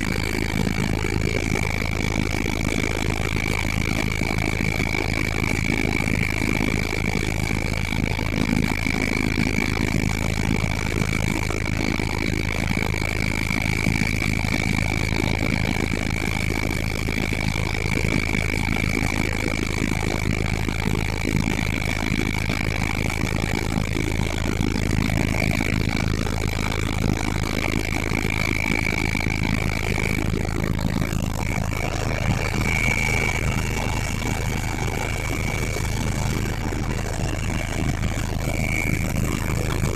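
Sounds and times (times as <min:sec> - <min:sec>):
helicopter rotor and engine drone: 0:00.0 - 0:39.9
high turbine whine: 0:00.0 - 0:39.9.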